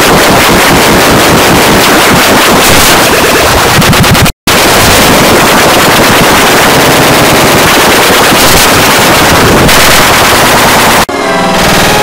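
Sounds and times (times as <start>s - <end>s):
distorted crackling rattle: 0.0s - 12.0s.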